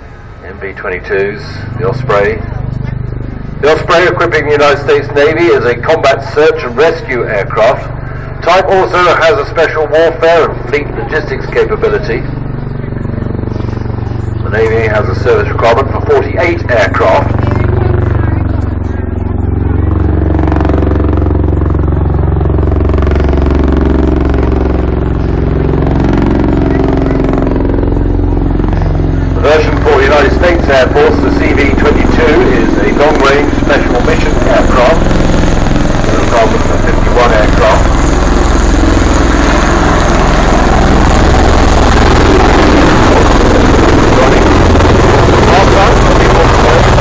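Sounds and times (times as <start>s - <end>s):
tiltrotor aircraft in flight: 0.0s - 47.0s.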